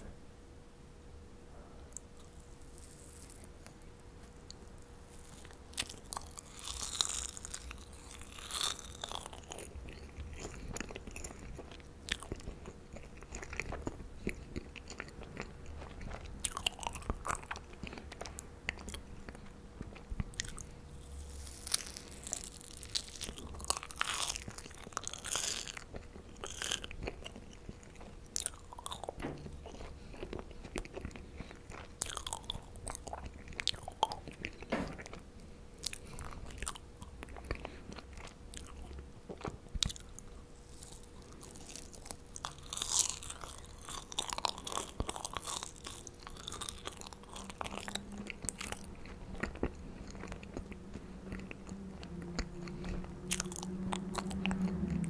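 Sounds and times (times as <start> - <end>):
person chewing marshmallows: 1.9 - 55.0.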